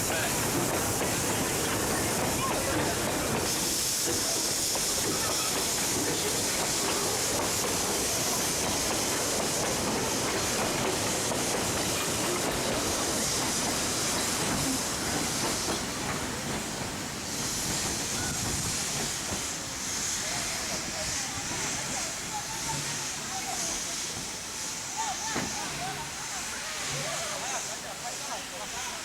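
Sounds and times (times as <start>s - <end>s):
steam locomotive hissing steam: 0.0s - 29.0s.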